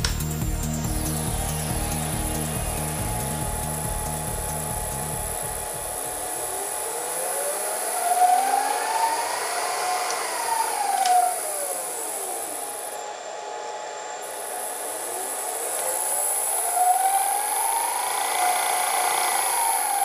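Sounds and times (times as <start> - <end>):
milling machine spindle whine: 0.0 - 20.0.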